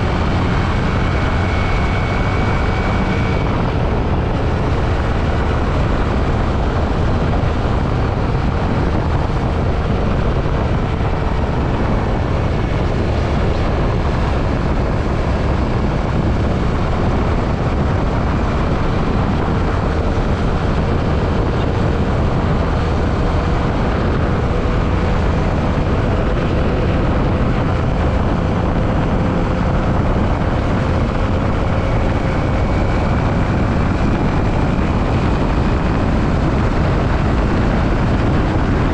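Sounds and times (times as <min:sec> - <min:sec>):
faint motorcycle engine: 0:00.0 - 0:38.9
wind rushing over microphone: 0:00.0 - 0:38.9.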